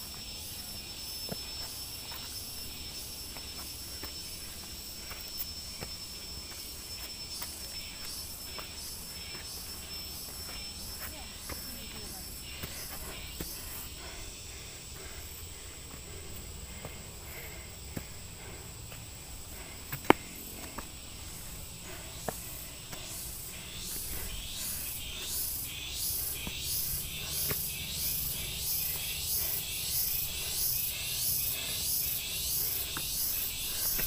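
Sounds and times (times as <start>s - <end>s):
insects high shrill drone: 0.0s - 34.0s
pulsing insect call: 0.0s - 34.0s.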